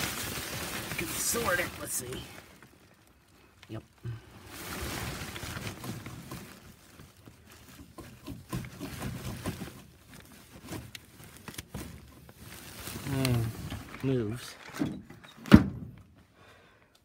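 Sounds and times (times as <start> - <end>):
rustling: 0.0 - 15.5.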